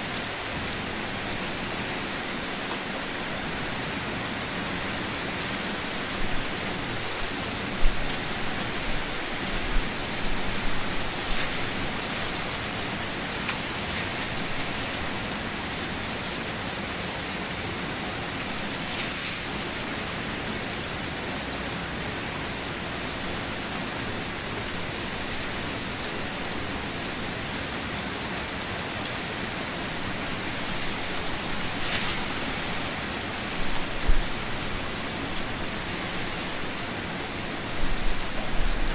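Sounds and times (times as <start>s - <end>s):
rain falling into puddles: 0.0s - 38.9s.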